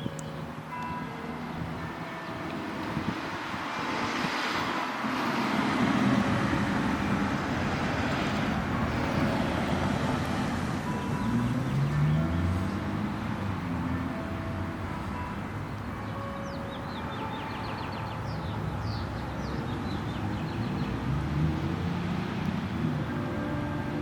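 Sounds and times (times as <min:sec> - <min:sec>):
vehicle passing: 0:00.6 - 0:24.0.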